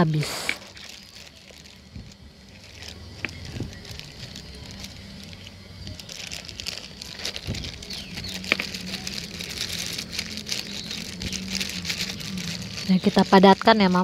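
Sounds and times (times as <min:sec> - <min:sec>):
plastic bag crinkling: 0:00.1 - 0:14.0.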